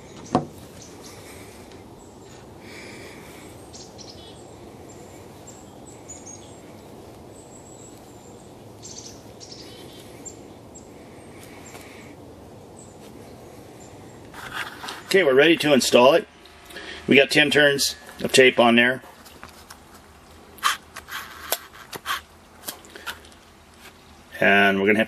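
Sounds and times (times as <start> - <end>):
birds chirping: 0.0 - 25.0
steady background noise: 0.0 - 25.0.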